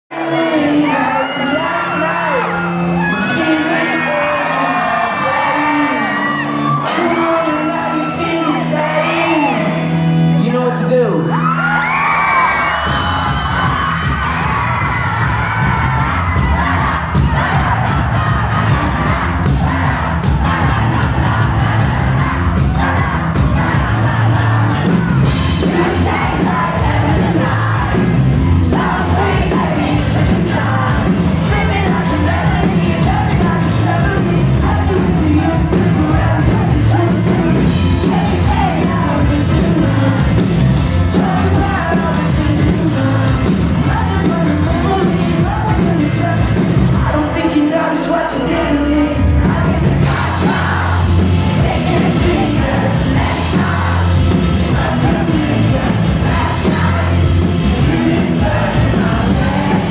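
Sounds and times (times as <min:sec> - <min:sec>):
lead singer vocals: 0:00.1 - 0:11.2, 0:11.9 - 0:59.9
crowd yelling and whooping: 0:00.1 - 0:59.9
live pop-rock band playing: 0:00.1 - 0:59.9.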